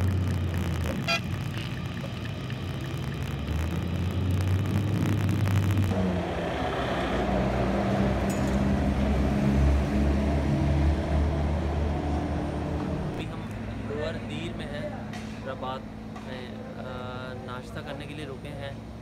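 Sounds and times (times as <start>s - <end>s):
vehicle engine rumble: 0.0s - 19.0s
vehicles driving past: 0.0s - 19.0s.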